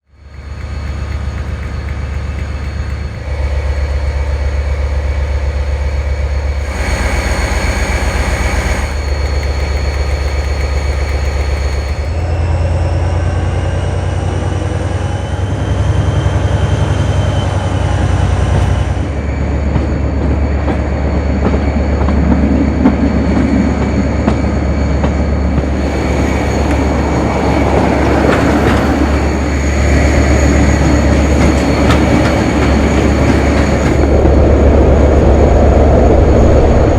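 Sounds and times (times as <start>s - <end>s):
diesel locomotive engine drone: 0.0s - 36.9s
high whine: 0.0s - 36.9s
rail and wheel noise: 0.0s - 36.9s.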